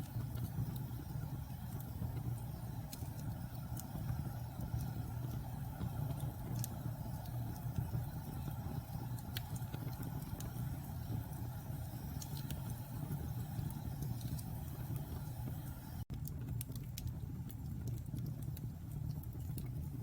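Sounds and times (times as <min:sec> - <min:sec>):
fire roaring in fireplace: 0:00.0 - 0:20.0
wood crackling and popping: 0:00.0 - 0:20.0.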